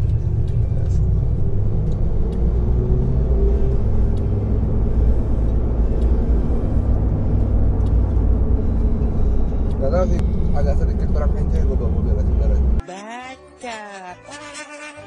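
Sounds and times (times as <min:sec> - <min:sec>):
car engine and road rumble: 0:00.0 - 0:12.8
faint wavering drone: 0:00.0 - 0:12.8.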